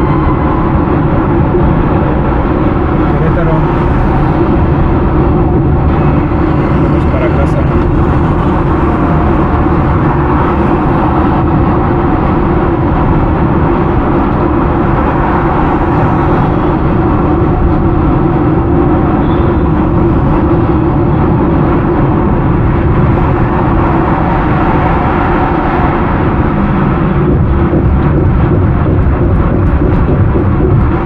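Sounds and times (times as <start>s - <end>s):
car road noise from inside: 0.0s - 31.0s.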